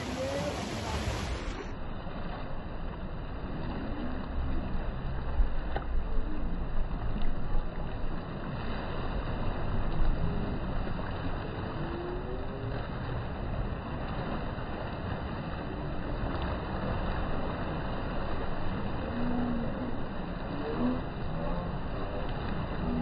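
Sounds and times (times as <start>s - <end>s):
sea waves washing against boulders: 0.0s - 23.0s
wind rumbling on microphone: 0.0s - 23.0s.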